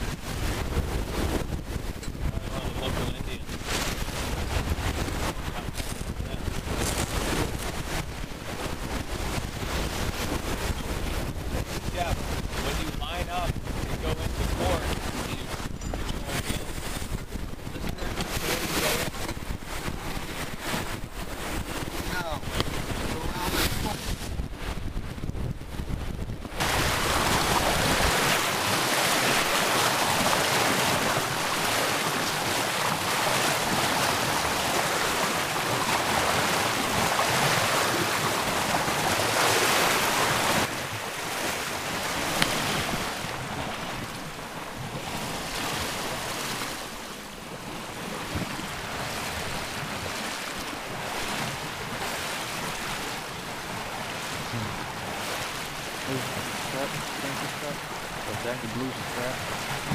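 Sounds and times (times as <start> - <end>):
water rushing along a hull: 0.0 - 59.9
wind on the microphone: 0.0 - 59.9.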